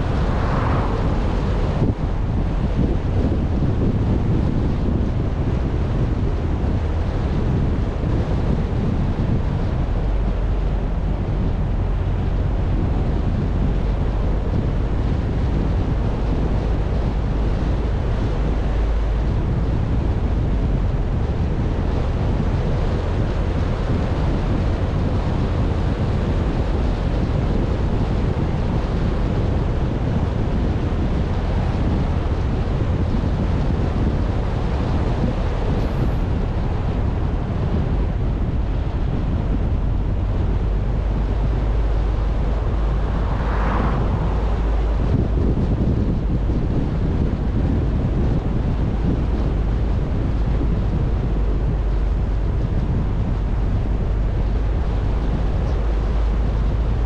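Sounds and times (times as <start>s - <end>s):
car road and engine noise: 0.0s - 57.0s
wind blowing over microphone: 0.0s - 57.0s.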